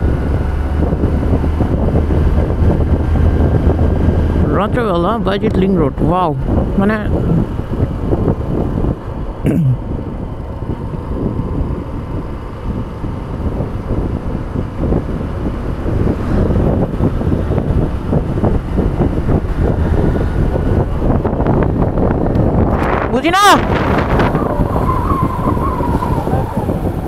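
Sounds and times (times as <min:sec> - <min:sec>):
motorcycle engine: 0:00.0 - 0:05.0, 0:06.4 - 0:27.0
road noise: 0:00.0 - 0:27.0
wind rushing over microphone: 0:00.0 - 0:27.0.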